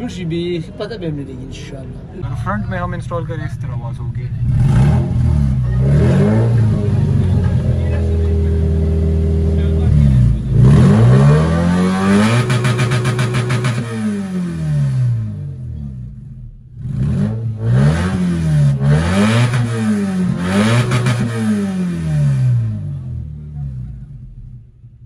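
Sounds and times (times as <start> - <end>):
car engine revving: 2.2 - 25.0.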